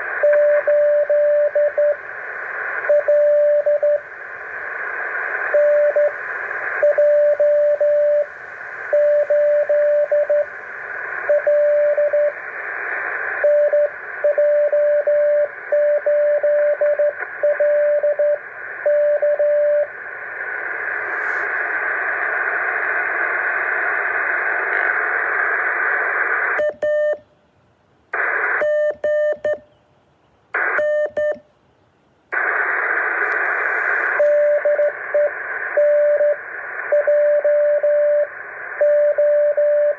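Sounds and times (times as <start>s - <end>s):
radio receiver hiss: 0.0s - 27.1s, 28.1s - 29.5s, 30.5s - 31.4s, 32.2s - 39.9s.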